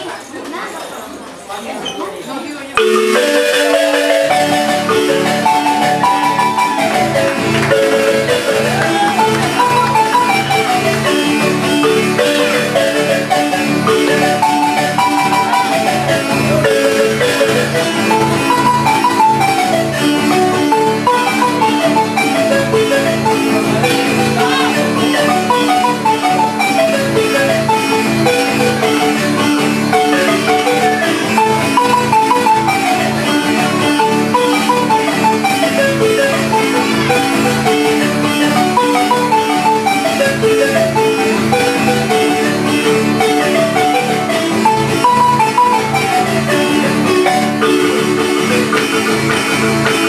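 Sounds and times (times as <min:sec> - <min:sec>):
marimba playing dance tune: 0:02.8 - 0:50.0.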